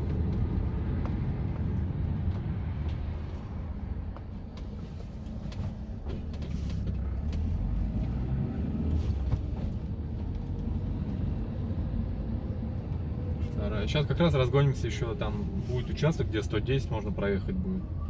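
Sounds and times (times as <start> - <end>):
car engine hum inside cabin: 0.0 - 18.0
road and tyre rumble: 0.0 - 18.0.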